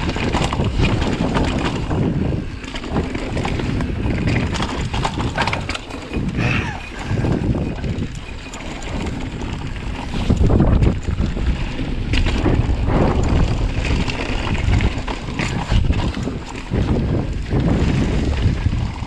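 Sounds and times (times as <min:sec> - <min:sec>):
bike knocks and rattles: 0:00.0 - 0:19.0
wind buffeting microphone: 0:00.0 - 0:19.0.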